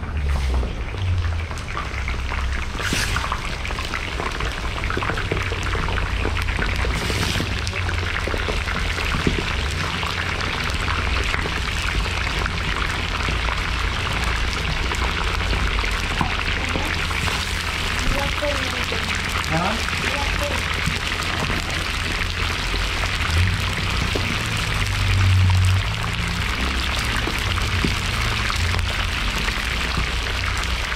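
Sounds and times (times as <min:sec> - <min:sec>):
meat sizzling in hot oil: 0:00.0 - 0:30.9.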